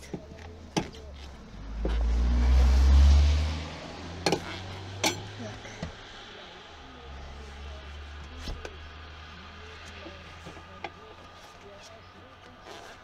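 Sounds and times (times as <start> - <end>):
car passing: 1.0 - 13.0.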